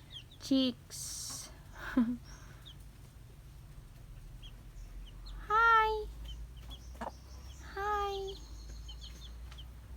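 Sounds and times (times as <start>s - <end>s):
chicks peeping: 0.0s - 9.9s.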